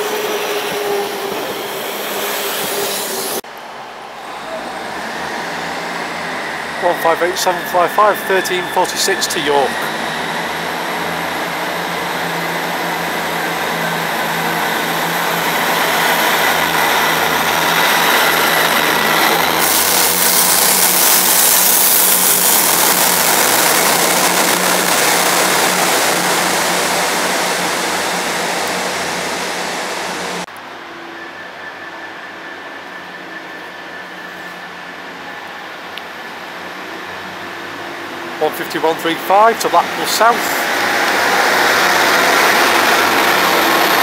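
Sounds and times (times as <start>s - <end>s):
diesel train passing: 0.0s - 44.0s
wheels on rail: 0.0s - 44.0s.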